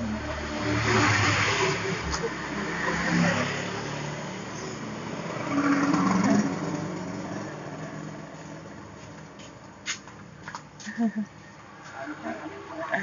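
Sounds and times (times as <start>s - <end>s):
road vehicle passing: 0.0s - 13.0s.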